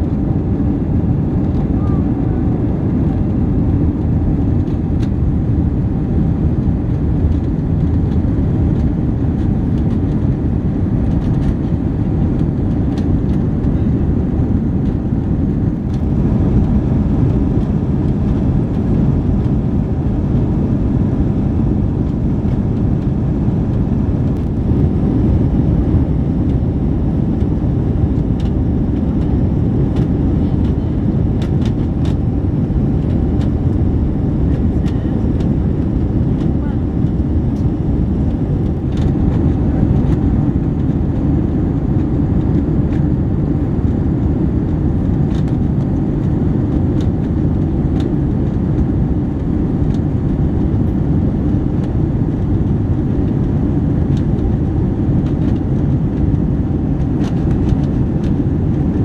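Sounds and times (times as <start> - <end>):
jet engine and airflow noise: 0.0 - 59.0.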